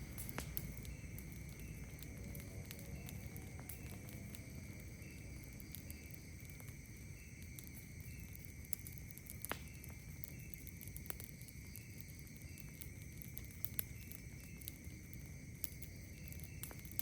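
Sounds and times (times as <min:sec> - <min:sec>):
campfire crackling and popping: 0:00.0 - 0:17.0
night insects trilling: 0:00.0 - 0:17.0.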